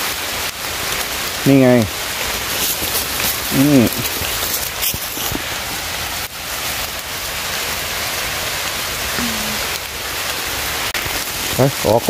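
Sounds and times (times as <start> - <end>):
rain on forest leaves: 0.0 - 12.0.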